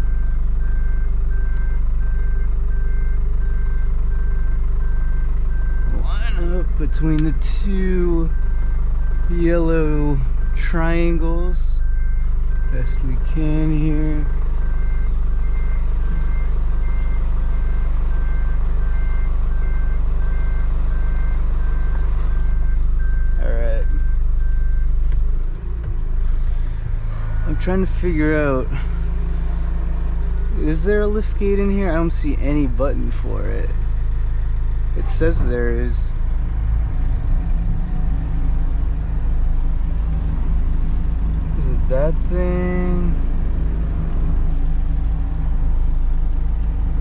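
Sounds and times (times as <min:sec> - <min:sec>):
diesel engine drone: 0:00.0 - 0:47.0
truck reversing alarm beeps: 0:00.0 - 0:47.0.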